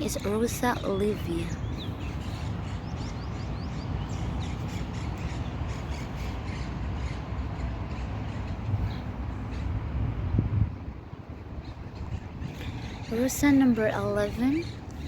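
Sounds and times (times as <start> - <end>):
birds chirping: 0.0 - 9.9, 11.2 - 15.0
steady low rumble: 0.0 - 15.0.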